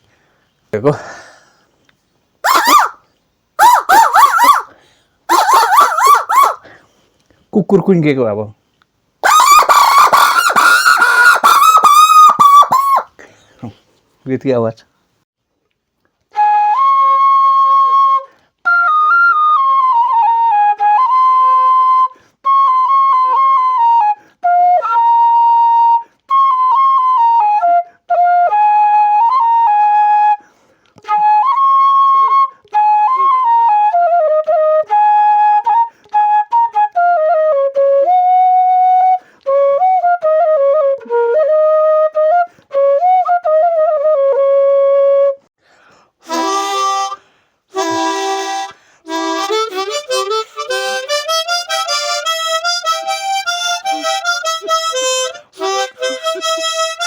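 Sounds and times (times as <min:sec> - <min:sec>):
flute melody: 0:02.4 - 0:03.0, 0:03.6 - 0:06.8, 0:09.2 - 0:13.1, 0:16.3 - 0:45.5, 0:46.2 - 0:57.0.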